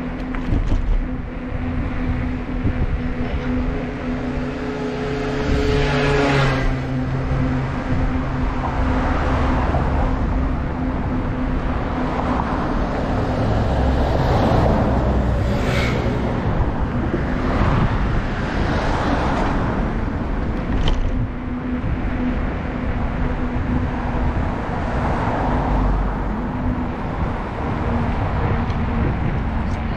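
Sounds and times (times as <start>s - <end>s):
vehicles passing: 0.0s - 29.9s
wind rumbling on microphone: 0.0s - 29.9s.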